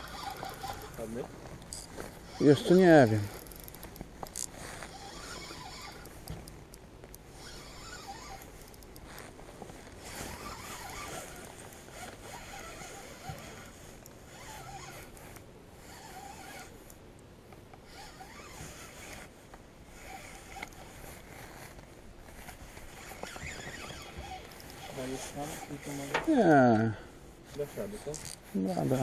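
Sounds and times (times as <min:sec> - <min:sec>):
scratchy zipper-like rustling: 0:00.0 - 0:06.4, 0:07.3 - 0:16.9, 0:17.9 - 0:29.0.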